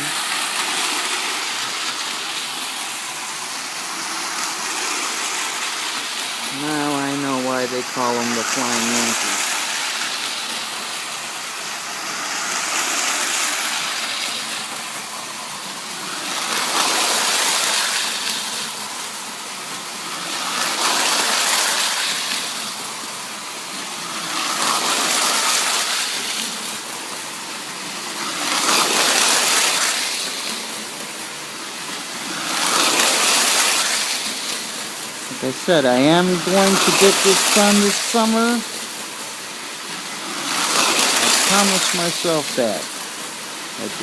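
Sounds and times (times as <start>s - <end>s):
model train rumbling on track: 0.0s - 38.9s.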